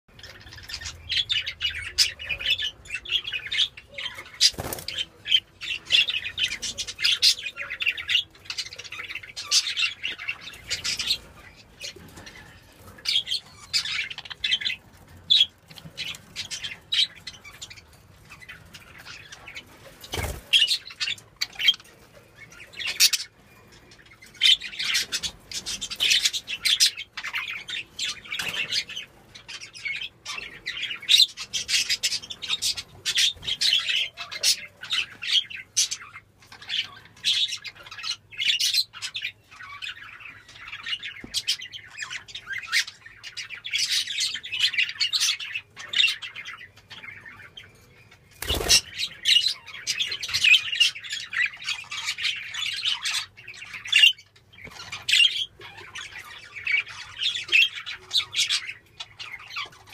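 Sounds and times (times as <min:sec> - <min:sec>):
budgerigars chattering: 0:00.1 - 0:59.9.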